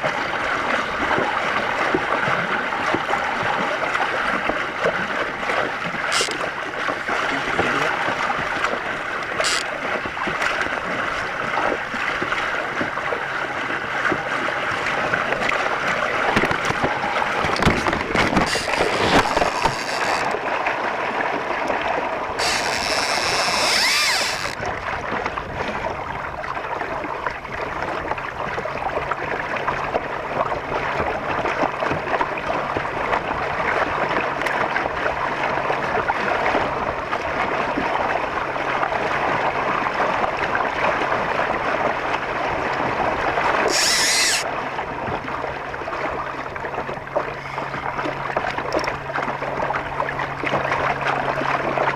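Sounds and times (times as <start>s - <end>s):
water splashing against kayak hull: 0.0s - 51.9s.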